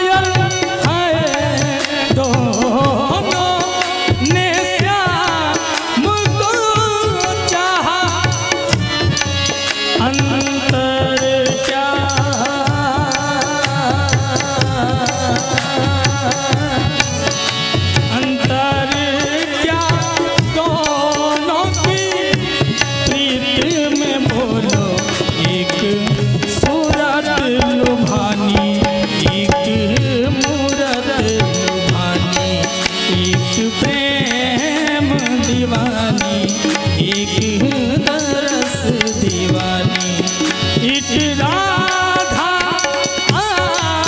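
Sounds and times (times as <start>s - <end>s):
instrumental accompaniment: 0.0s - 44.0s
man singing into microphone: 0.0s - 44.0s
percussion beat: 0.0s - 44.0s.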